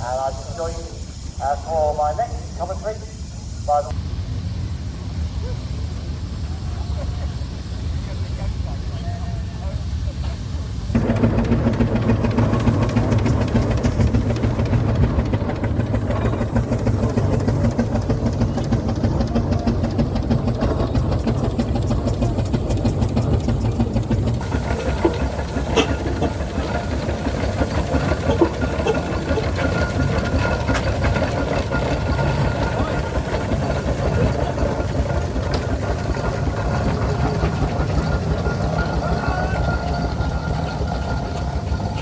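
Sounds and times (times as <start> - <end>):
hissing steam: 0.0 - 42.0
steam traction engine running: 0.0 - 42.0.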